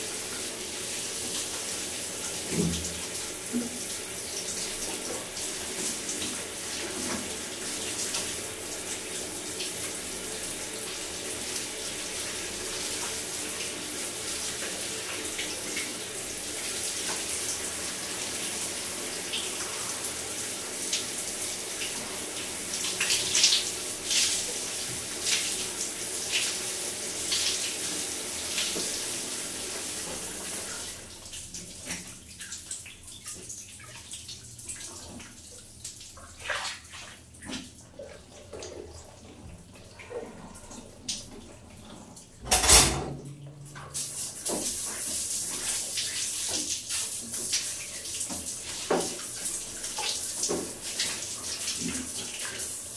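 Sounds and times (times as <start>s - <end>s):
sharp splashes and drips: 0.0s - 52.9s.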